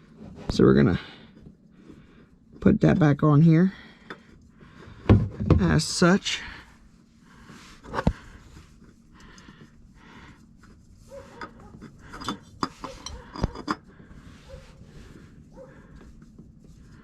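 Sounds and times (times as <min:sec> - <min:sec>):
oil filter rubbing and scraping: 0:00.0 - 0:17.0.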